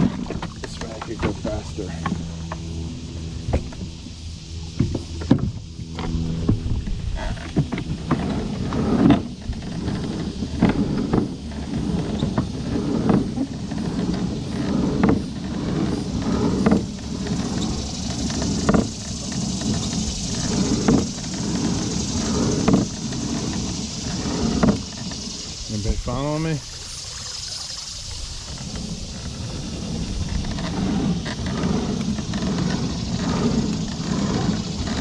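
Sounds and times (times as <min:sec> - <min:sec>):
water churning: 0:00.0 - 0:35.0.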